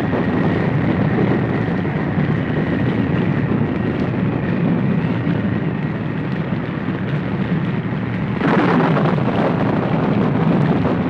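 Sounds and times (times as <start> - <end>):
storm wind rumble: 0.0 - 11.0
wind blast rushing roar: 0.0 - 11.0.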